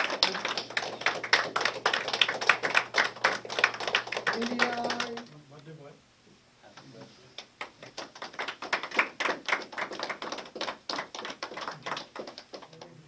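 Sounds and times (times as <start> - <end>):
people clapping: 0.0 - 5.3, 7.4 - 13.0.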